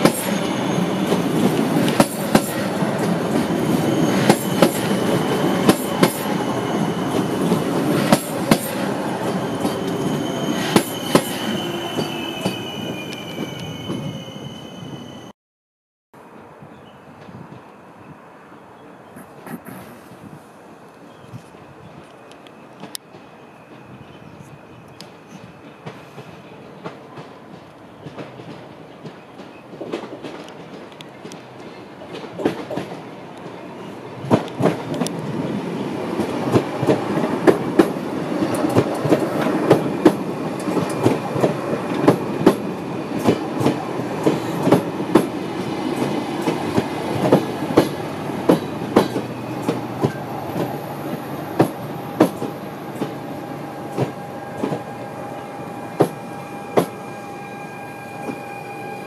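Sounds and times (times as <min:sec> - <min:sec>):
electric train passing: 0:00.0 - 0:15.3, 0:21.7 - 0:59.0.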